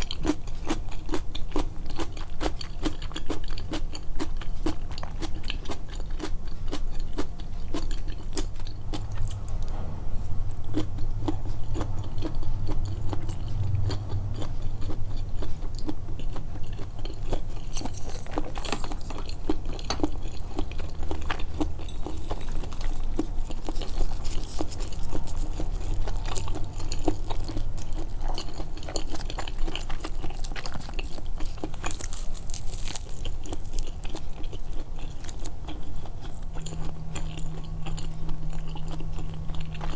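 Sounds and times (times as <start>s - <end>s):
wet chewing and biting: 0.0s - 9.9s, 10.6s - 39.9s.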